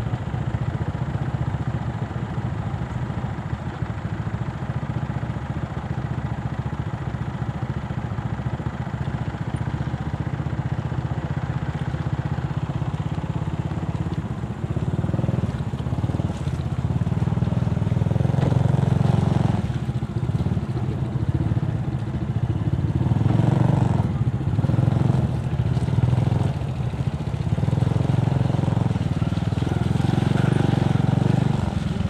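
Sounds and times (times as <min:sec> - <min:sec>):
motorcycle engine at low speed: 0:00.0 - 0:32.0.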